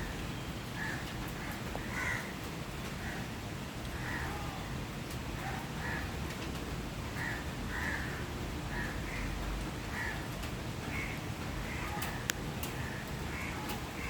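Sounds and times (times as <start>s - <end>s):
falling rain hiss: 0.0s - 14.0s.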